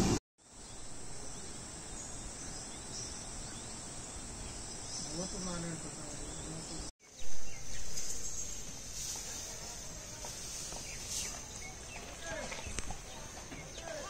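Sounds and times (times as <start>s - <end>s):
insects humming: 0.0s - 14.0s.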